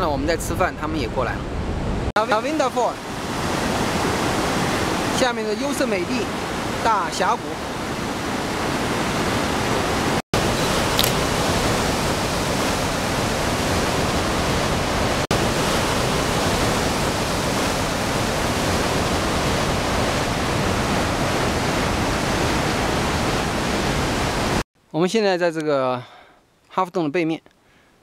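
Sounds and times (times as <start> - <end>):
waterfall rushing: 2.2 - 24.6.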